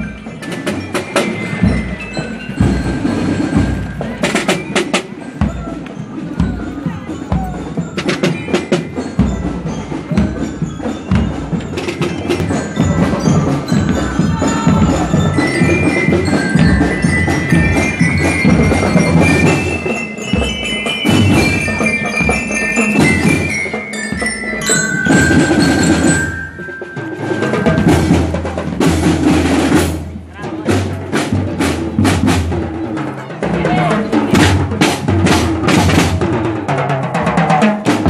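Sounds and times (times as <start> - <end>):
bell lyres playing melody: 0.0 - 37.0.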